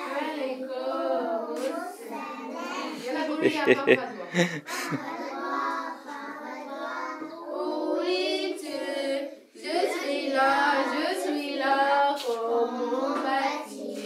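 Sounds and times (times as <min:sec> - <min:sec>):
children singing: 0:00.0 - 0:14.0.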